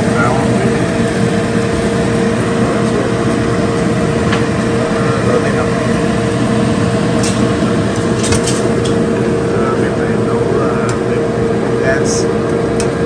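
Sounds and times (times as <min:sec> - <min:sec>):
kitchen appliances whirring and humming: 0:00.0 - 0:13.0.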